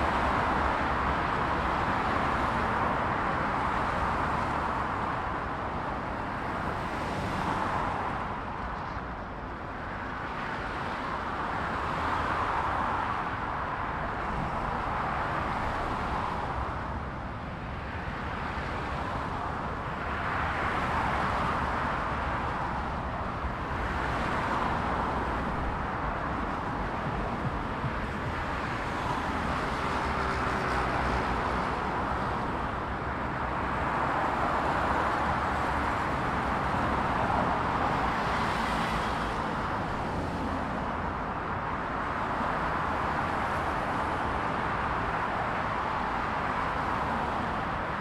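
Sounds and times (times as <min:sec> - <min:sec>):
cars passing at speed: 0:00.0 - 0:48.0.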